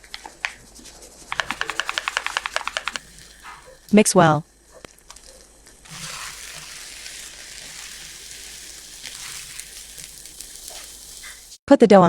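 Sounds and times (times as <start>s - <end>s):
dough being stirred in a bowl: 0.0s - 11.6s.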